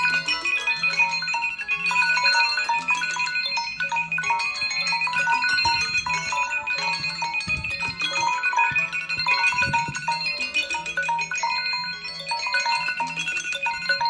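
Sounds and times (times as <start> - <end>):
phone ringtone melodies: 0.0 - 14.0
rapid high beeping: 0.0 - 14.0.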